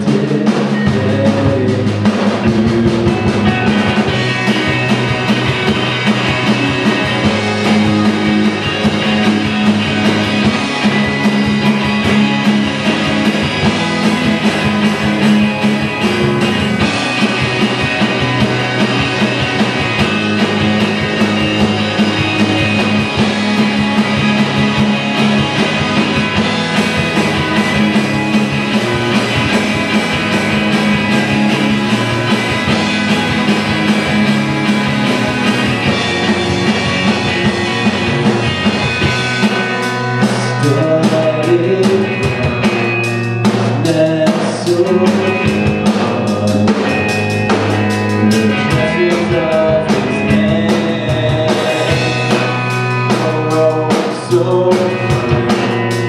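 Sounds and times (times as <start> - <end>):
bass guitar: 0.0 - 56.0
drum kit: 0.0 - 56.0
electric guitar: 0.0 - 56.0
keyboard: 0.0 - 56.0.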